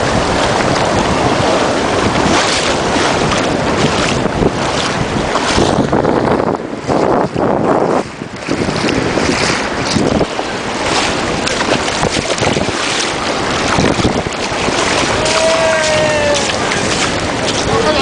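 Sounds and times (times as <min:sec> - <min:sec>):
sea waves rushing: 0:00.0 - 0:18.0
wind buffeting microphone: 0:00.0 - 0:18.0.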